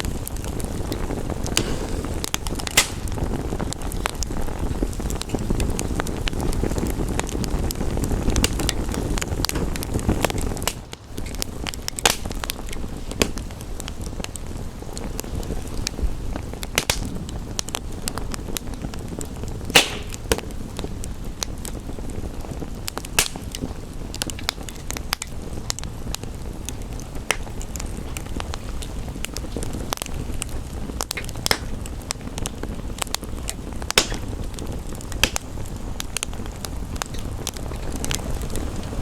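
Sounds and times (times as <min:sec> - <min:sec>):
low rumbling noise: 0:00.0 - 0:39.0
wood fire crackling: 0:00.0 - 0:39.0.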